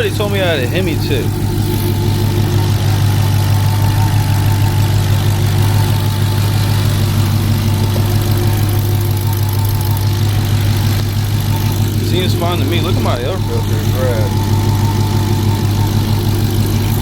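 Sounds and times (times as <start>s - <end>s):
car engine idling: 0.0s - 17.0s
faint supercharger whine: 0.0s - 17.0s.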